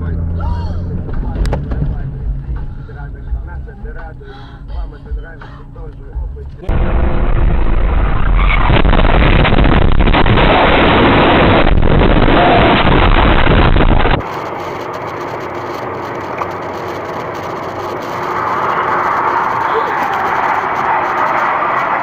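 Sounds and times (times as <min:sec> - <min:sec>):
loud rough vehicle noise: 0:00.0 - 0:22.0
road noise: 0:00.0 - 0:22.0.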